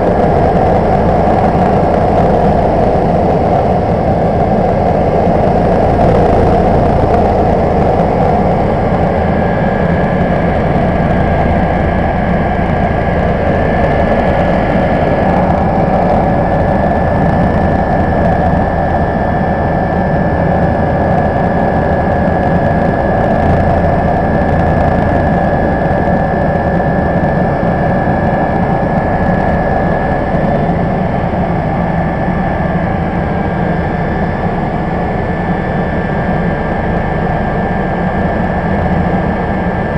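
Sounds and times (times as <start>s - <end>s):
helicopter engine and rotor drone: 0.0s - 39.9s
high whine: 0.0s - 39.9s.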